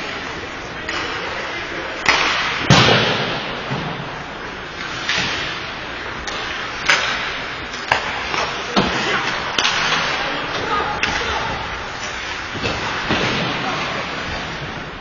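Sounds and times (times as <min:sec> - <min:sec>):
sticks and puck clacking: 0:00.0 - 0:03.9, 0:04.7 - 0:15.0.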